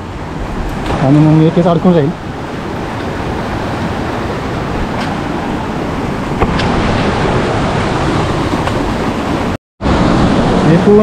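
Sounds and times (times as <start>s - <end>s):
fast-flowing stream rushing: 0.0s - 11.0s.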